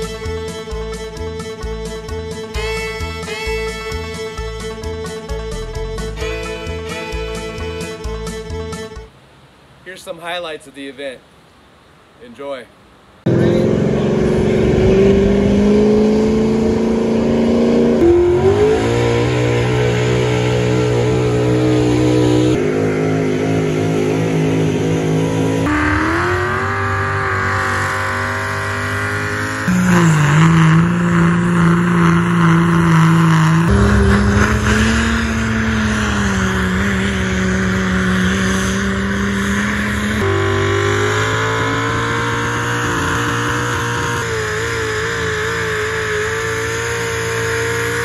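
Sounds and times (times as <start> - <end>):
truck engines revving under load: 0.0 - 9.1, 13.2 - 48.0.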